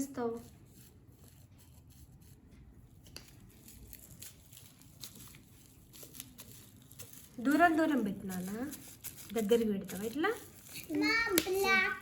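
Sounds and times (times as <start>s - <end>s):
bubble wrap and paper crinkling: 0.0s - 12.0s.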